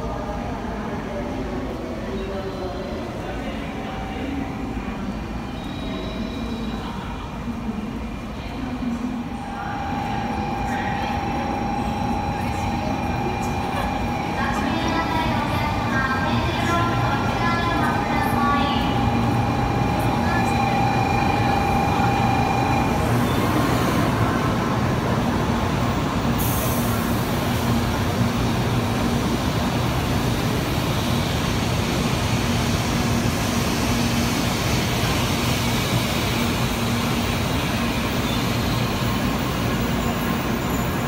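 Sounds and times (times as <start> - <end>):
train wheels rumbling on rail: 4.8 - 41.0.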